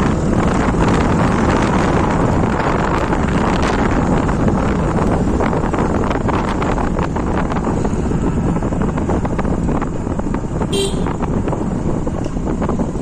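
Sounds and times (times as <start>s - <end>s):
motorbike engine rumble: 0.0s - 13.0s
wind buffeting microphone: 0.0s - 13.0s.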